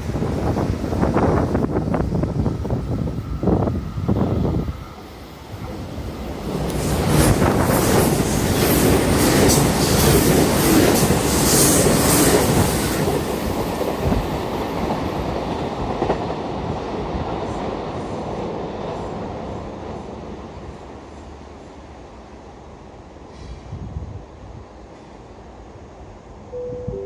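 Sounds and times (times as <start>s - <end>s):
train wheels rushing on rails: 0.0s - 26.0s.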